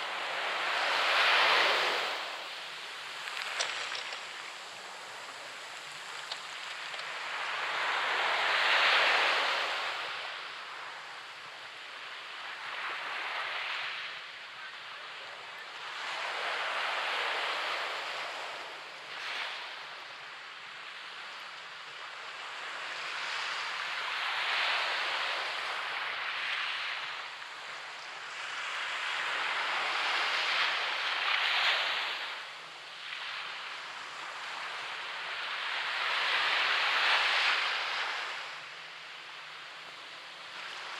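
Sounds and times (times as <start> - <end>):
surf breaking on a beach: 0.0 - 40.9.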